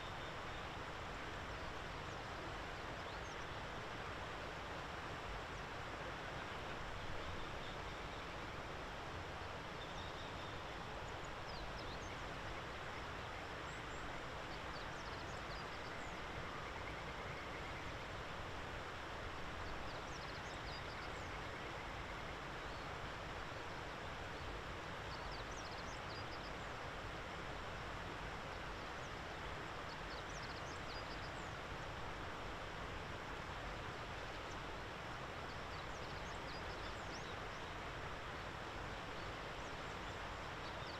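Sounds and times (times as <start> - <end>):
outdoor background hiss: 0.0 - 40.9.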